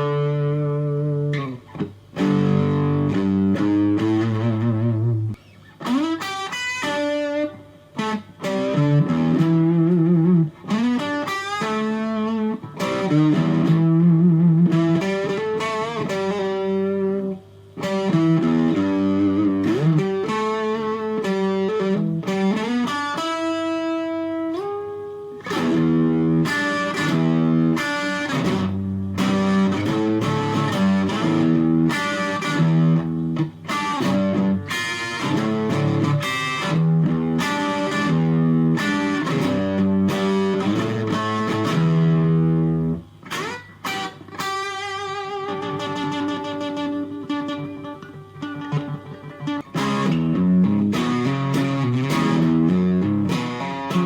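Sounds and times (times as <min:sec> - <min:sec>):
electric guitar lead phrases: 0:00.0 - 0:54.0.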